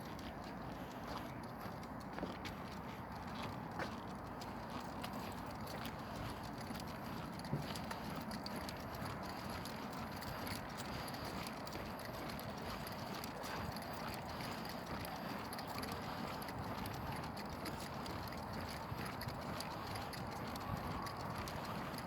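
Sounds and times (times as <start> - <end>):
footsteps on pavement: 0.0 - 22.0.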